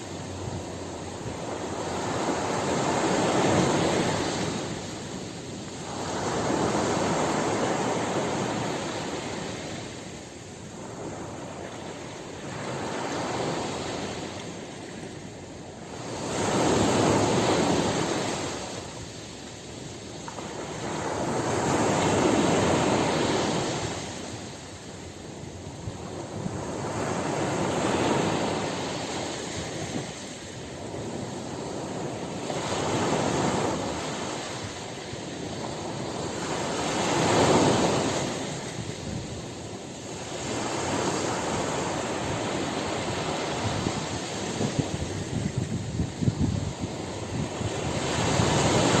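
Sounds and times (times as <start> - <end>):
ocean surf breaking: 0.0 - 49.0.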